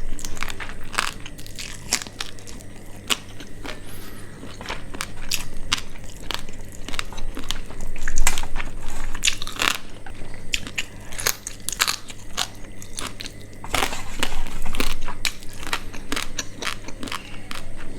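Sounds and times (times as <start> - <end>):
person chewing and crunching food: 0.0 - 17.9.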